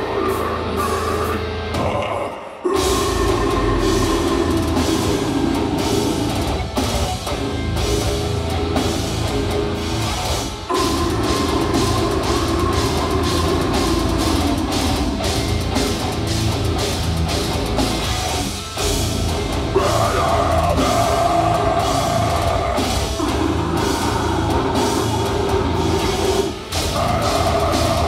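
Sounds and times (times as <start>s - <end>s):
fast heavy drumming: 0.0s - 28.0s
metal band playing live: 0.0s - 28.0s.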